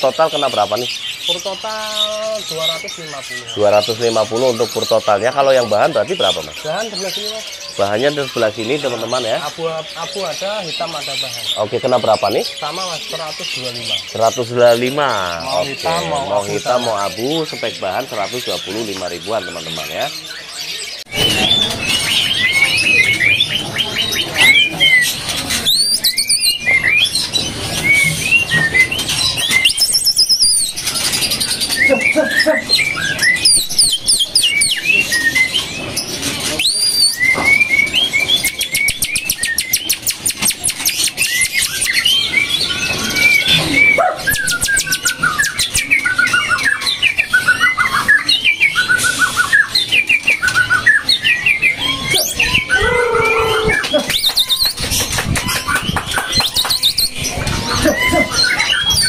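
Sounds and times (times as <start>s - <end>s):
songbirds chirping and whistling: 0.0s - 59.0s.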